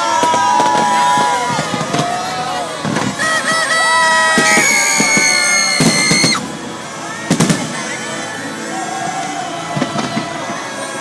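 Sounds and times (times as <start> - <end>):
fireworks bursting with sharp bangs: 0.0 - 8.6, 9.6 - 11.0
music with long held notes: 0.0 - 11.0.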